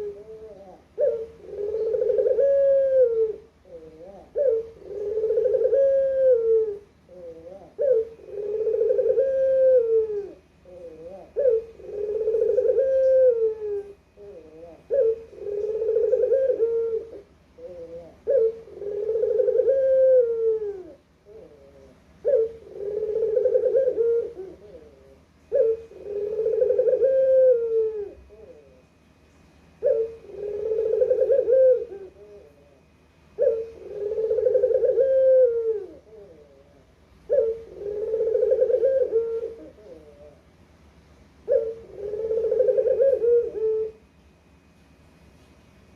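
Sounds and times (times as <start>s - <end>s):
dove cooing: 0.0s - 29.0s, 29.6s - 40.6s, 41.4s - 44.1s.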